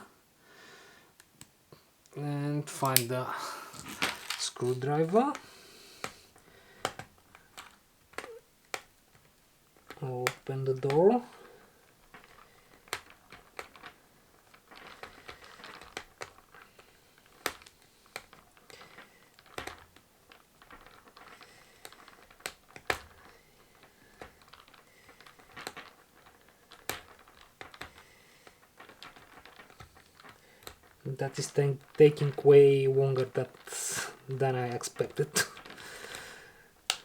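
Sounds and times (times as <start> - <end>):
plastic handling noises: 1.2 - 37.0.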